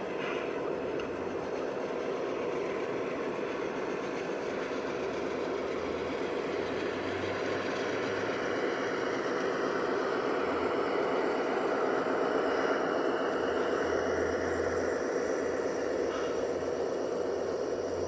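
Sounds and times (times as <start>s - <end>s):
model train rolling on track: 0.0s - 18.0s.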